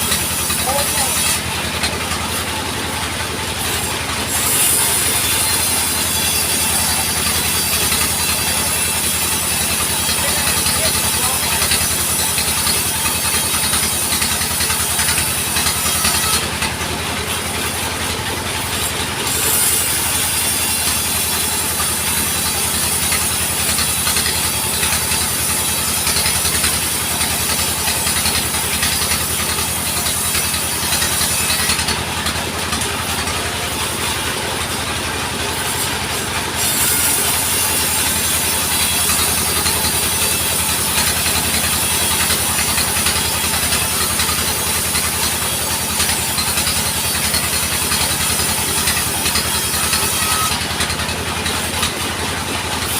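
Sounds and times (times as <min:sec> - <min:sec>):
sawing noise: 0:00.0 - 0:52.9
sawmill engine pulsing: 0:00.0 - 0:52.9.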